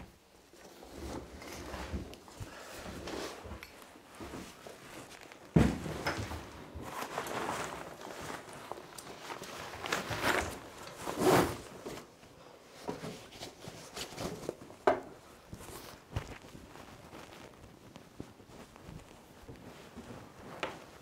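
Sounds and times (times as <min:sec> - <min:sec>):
fabric rustling and swishing: 0:00.2 - 0:21.0.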